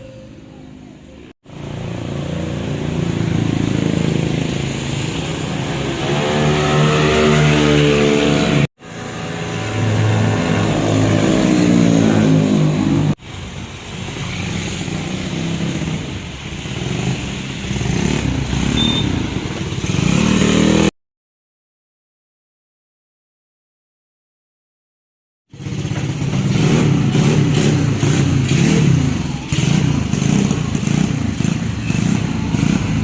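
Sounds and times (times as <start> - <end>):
scooter engine revving: 1.5 - 20.9, 25.5 - 33.0.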